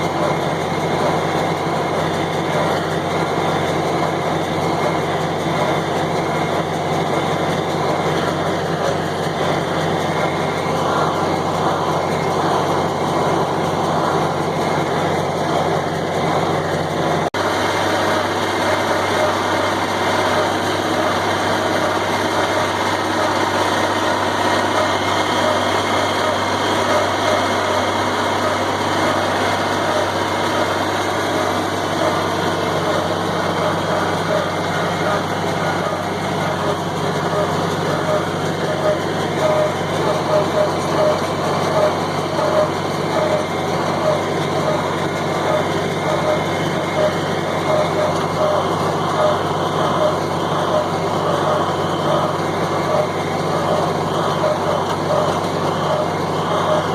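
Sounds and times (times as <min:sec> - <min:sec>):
tractor engine running under load: 0:00.0 - 0:56.9.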